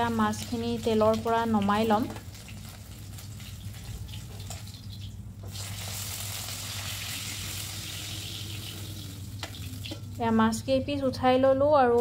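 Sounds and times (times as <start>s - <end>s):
fish sizzling in hot oil: 0.0s - 10.2s.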